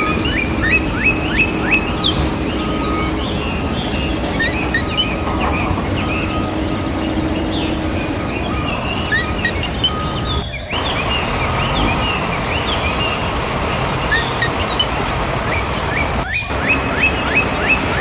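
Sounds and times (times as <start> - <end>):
birds chirping: 0.0 - 18.0
steady background rumble: 0.0 - 18.0.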